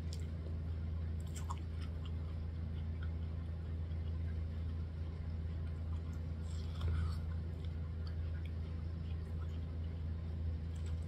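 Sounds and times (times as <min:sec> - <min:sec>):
low background hum: 0:00.0 - 0:11.0
quiet chewing clicks: 0:00.0 - 0:11.0.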